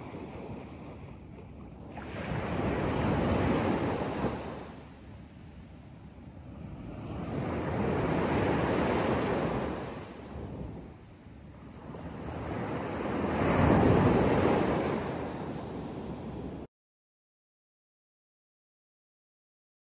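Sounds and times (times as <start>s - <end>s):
small waves washing up beach: 0.0s - 16.7s.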